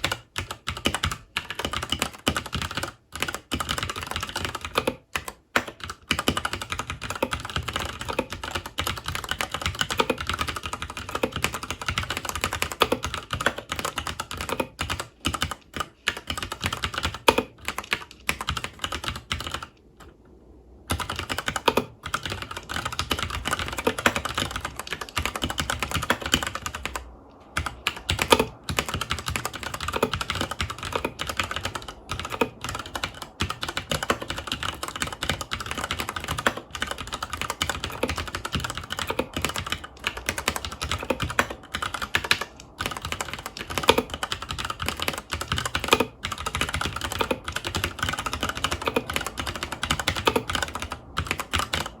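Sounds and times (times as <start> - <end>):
mechanical keyboard typing: 0.0 - 19.8, 20.9 - 52.0.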